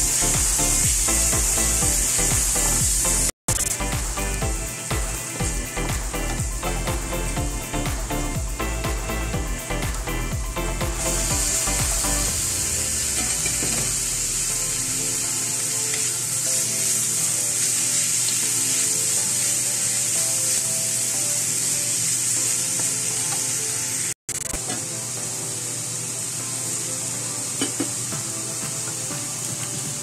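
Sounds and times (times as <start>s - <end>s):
vegetables sizzling in a wok: 0.0s - 9.9s, 10.9s - 30.0s.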